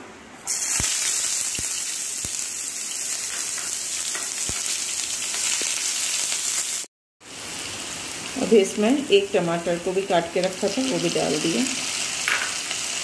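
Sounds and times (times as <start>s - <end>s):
onion sizzling in hot oil: 0.5s - 13.0s.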